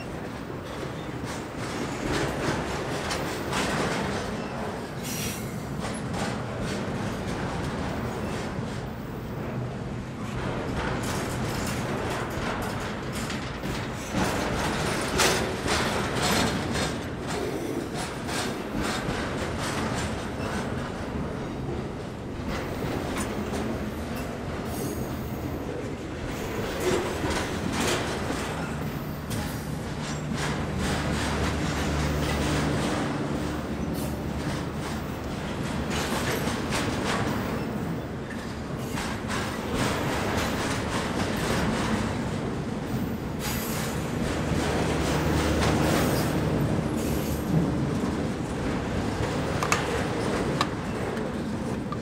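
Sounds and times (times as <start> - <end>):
freight train wheels rumbling on rail: 0.0 - 52.0
train clicks and knocks: 0.0 - 52.0.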